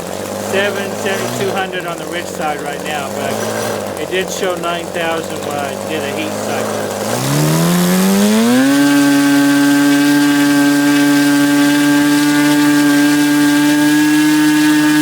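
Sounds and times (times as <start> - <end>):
model glow engine running: 0.0 - 15.0.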